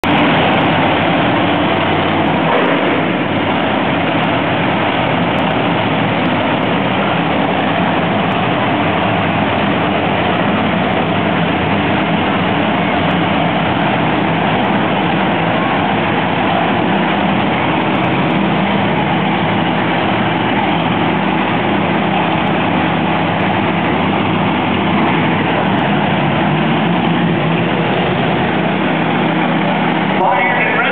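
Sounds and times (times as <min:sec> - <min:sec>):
heavy truck engines droning: 0:00.0 - 0:30.9.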